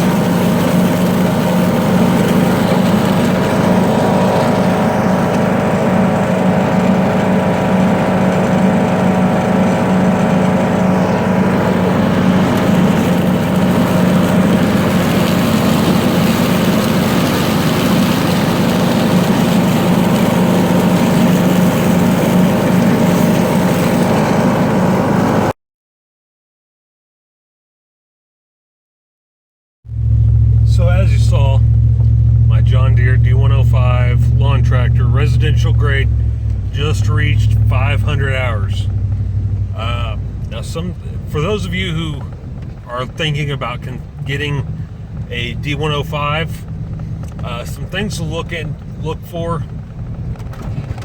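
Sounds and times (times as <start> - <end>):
riding mower engine running: 0.0 - 25.5, 29.9 - 51.0.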